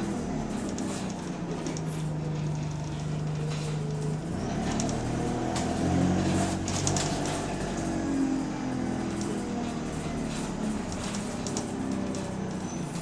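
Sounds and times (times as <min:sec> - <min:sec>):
bus body rattling: 0:00.0 - 0:13.0
bus engine running: 0:00.0 - 0:13.0.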